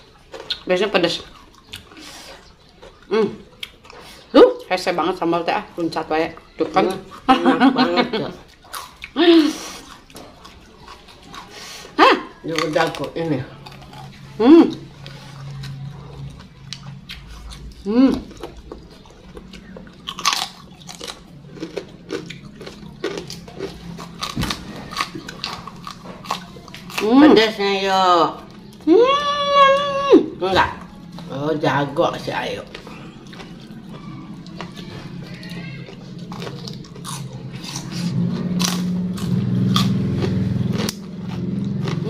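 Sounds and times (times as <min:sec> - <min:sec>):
crunchy wet chewing: 0:00.0 - 0:42.0
low steady hum: 0:00.0 - 0:42.0.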